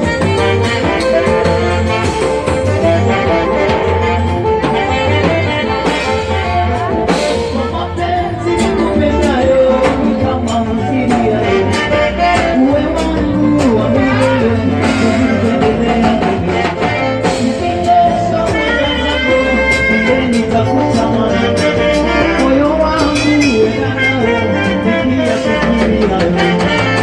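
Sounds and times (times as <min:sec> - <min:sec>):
drum kit beat: 0:00.0 - 0:27.0
heavy bass line: 0:00.0 - 0:27.0
saxophones playing melody: 0:00.0 - 0:27.0.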